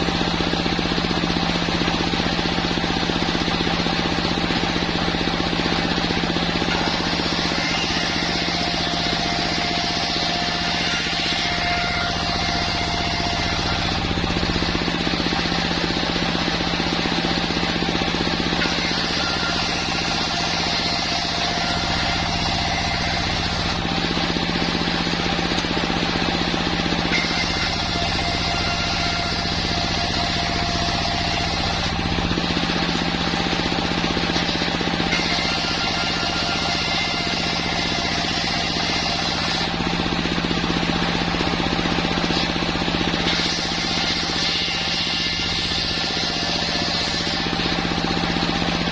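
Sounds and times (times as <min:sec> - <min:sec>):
sawmill machine humming and hissing: 0:00.0 - 0:48.9.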